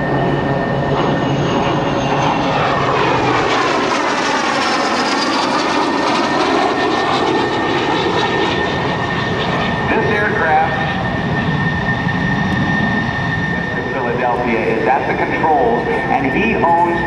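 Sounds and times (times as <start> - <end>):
jet engine whine flying past: 0.0 - 17.0.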